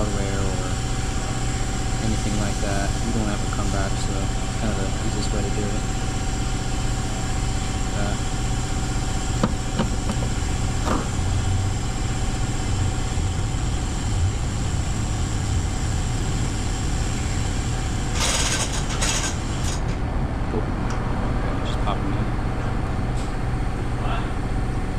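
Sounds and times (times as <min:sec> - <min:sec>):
low mechanical hum: 0:00.0 - 0:24.9.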